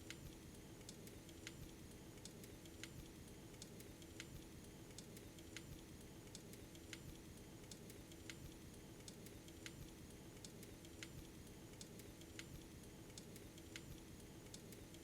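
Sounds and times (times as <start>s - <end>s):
faint regular clicking: 0.0s - 15.0s.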